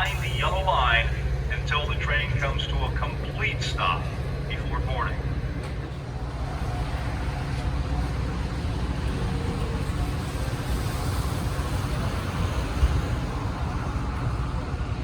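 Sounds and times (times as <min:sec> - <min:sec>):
train rumble approaching: 0:00.0 - 0:15.0.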